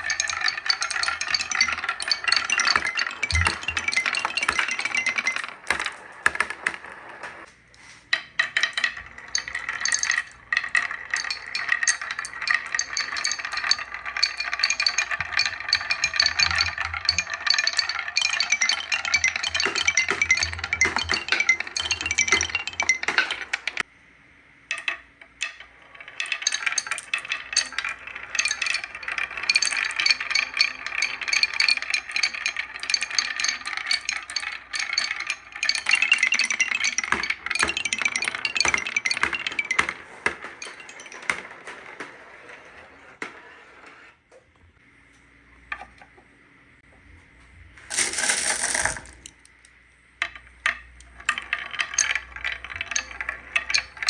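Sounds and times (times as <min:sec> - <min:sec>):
marbles clattering down wooden run: 0:00.0 - 0:07.5, 0:08.1 - 0:23.9, 0:24.7 - 0:43.5, 0:47.9 - 0:49.3, 0:50.2 - 0:54.0.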